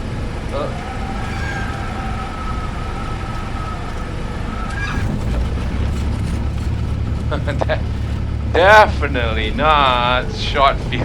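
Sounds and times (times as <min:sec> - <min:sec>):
aircraft engine and cabin noise: 0:00.0 - 0:11.0
deep rumble: 0:00.0 - 0:11.0
stall warning horn: 0:00.0 - 0:11.0.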